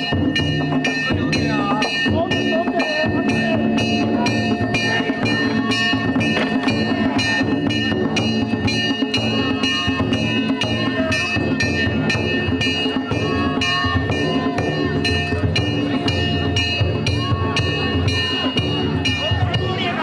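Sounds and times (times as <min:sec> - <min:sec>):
small hand gongs ringing: 0:00.0 - 0:20.0
taiko drum beating: 0:00.0 - 0:20.0.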